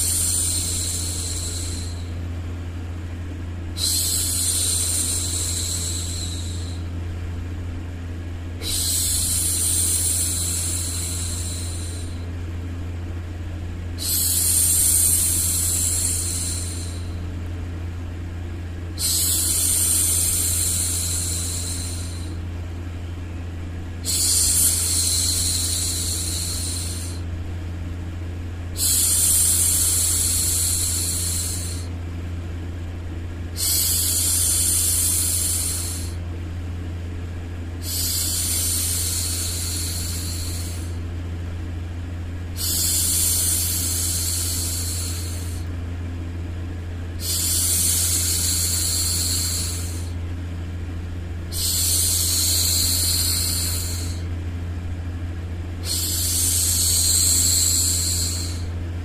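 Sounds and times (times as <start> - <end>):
low white-noise hum: 0.0 - 59.0.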